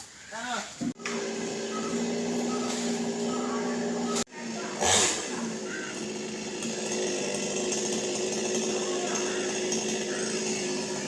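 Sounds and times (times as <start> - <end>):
chainsaw cutting tree: 1.0 - 11.0.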